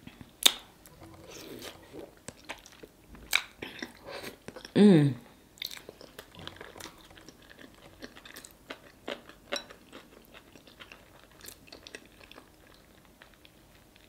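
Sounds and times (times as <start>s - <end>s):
person chewing with wet smacks: 0.2s - 4.8s, 5.6s - 14.0s.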